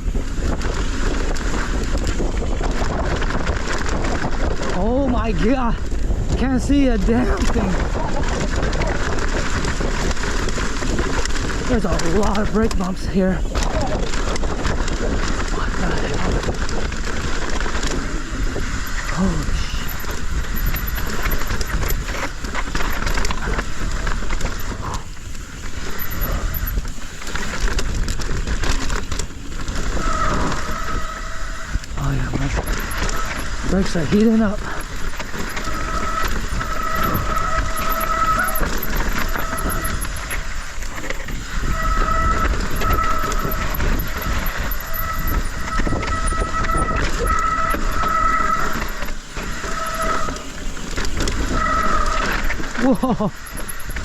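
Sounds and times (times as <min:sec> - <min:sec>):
bike clattering: 0:00.0 - 0:54.0
tyres on dirt: 0:00.0 - 0:54.0
wind rush: 0:00.0 - 0:54.0.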